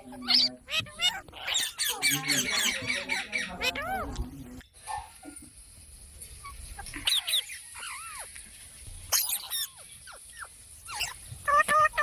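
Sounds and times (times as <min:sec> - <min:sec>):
parrot squawking and chirping: 0:00.0 - 0:04.2, 0:06.4 - 0:12.0.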